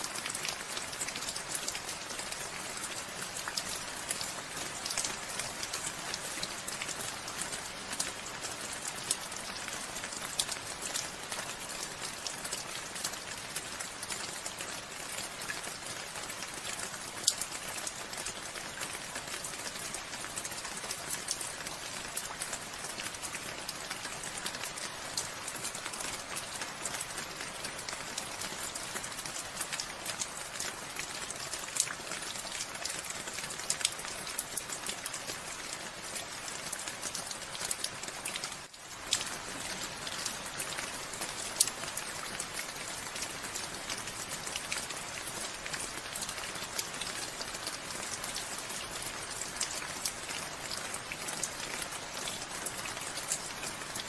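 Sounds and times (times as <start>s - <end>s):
raindrops ticking on surface: 0.0s - 54.0s
steady rain falling: 0.0s - 54.0s.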